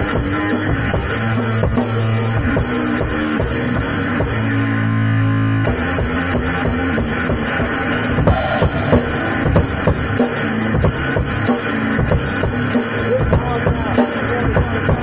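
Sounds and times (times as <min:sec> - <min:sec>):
drum kit beat: 0:00.0 - 0:04.8, 0:05.7 - 0:15.0
low electric guitar notes: 0:00.0 - 0:14.3.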